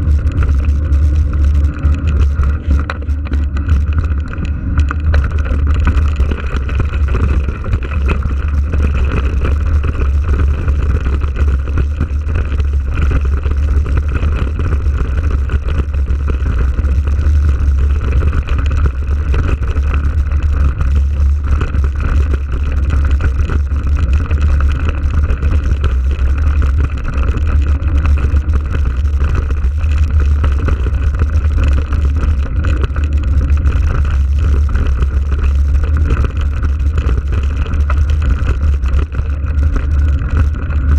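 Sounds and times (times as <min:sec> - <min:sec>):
wind and bike riding rumble: 0:00.0 - 0:40.9.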